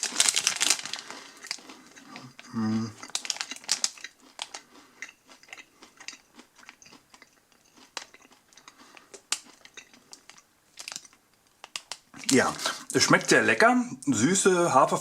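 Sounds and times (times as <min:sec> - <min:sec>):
granola bar crunching: 0:00.0 - 0:12.8.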